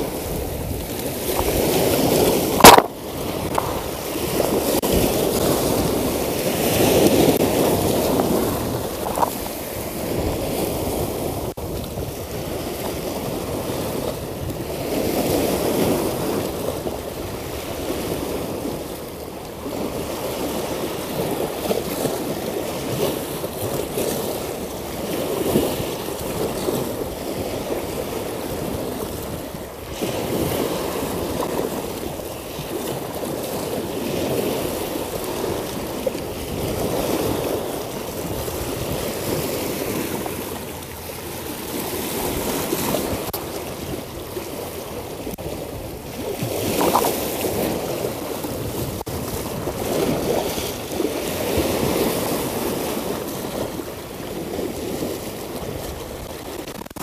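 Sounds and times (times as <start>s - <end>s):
sea waves washing over rocks: 0.0s - 57.0s.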